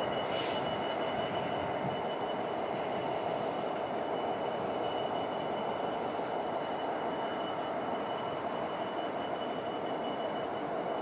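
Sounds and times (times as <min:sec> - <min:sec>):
high-pitched whine: 0:00.0 - 0:11.0
train running noise: 0:00.0 - 0:11.0.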